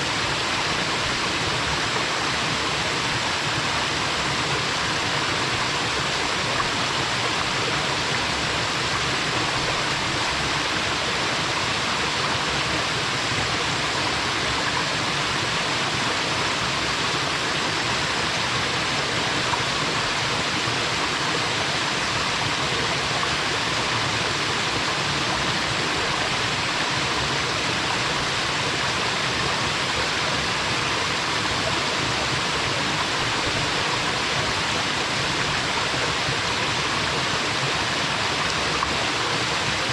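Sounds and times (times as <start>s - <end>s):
small waterfall splashing into pool: 0.0s - 39.9s.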